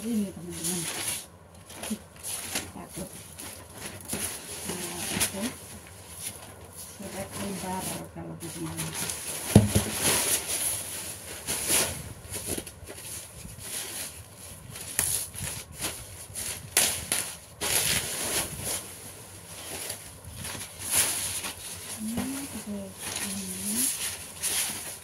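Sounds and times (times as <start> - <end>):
paper rustling and crinkling: 0.0 - 25.0.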